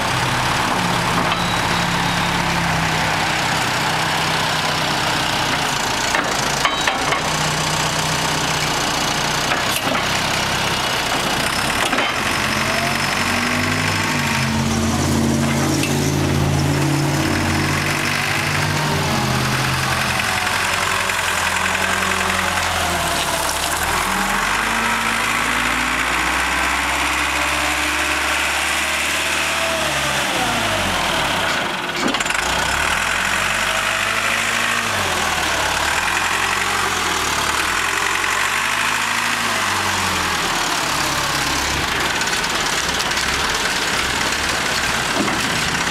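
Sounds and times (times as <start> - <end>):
forklift engine running: 0.0 - 45.9.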